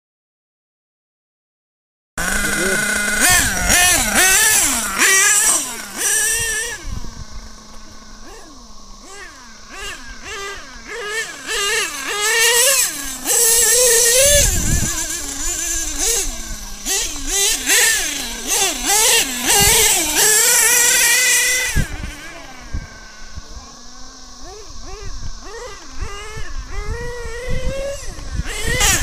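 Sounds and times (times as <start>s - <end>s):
model truck engine revving: 2.2s - 29.0s.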